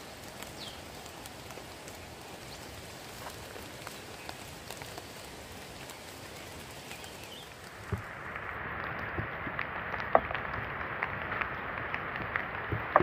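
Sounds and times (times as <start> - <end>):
rain hissing: 0.0 - 13.0
raindrops tapping: 0.0 - 13.0.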